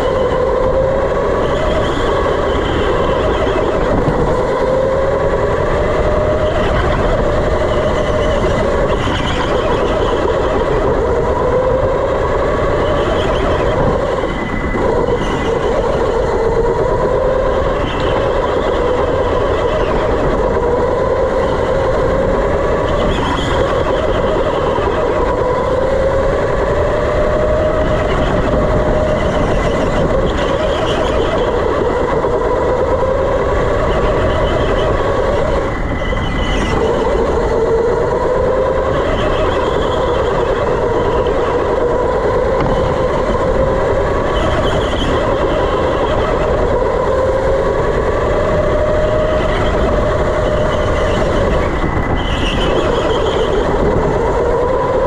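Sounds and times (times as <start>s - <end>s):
electric go-kart motor whining: 0.0s - 55.0s.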